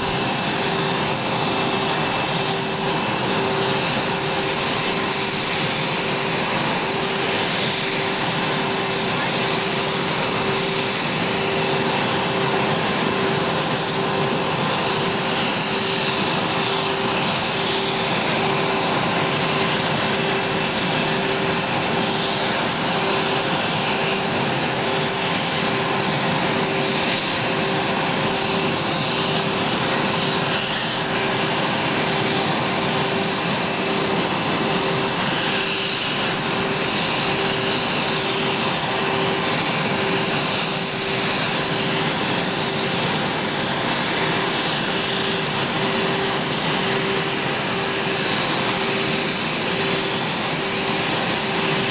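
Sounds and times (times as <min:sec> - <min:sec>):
aircraft turbines idling: 0:00.0 - 0:51.9.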